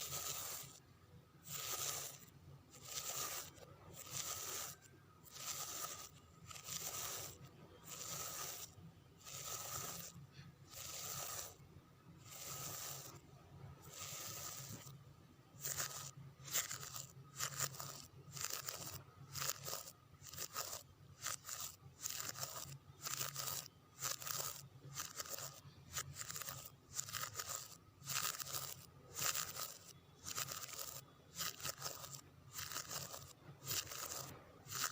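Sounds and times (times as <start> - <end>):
fingernails scratching a surface: 0.0 - 0.8, 1.4 - 11.6, 12.2 - 15.0, 15.6 - 34.9.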